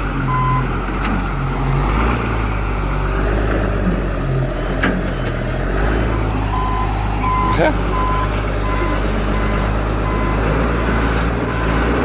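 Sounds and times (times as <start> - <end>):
forklift engine rumbling: 0.0 - 12.0.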